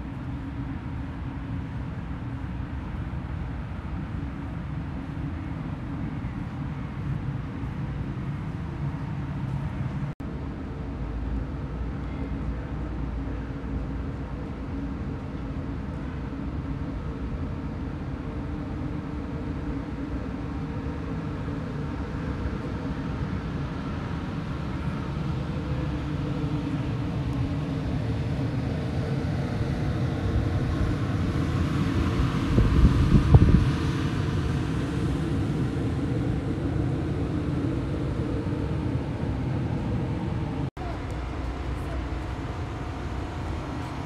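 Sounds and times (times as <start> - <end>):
low outdoor rumble: 0.0 - 44.0.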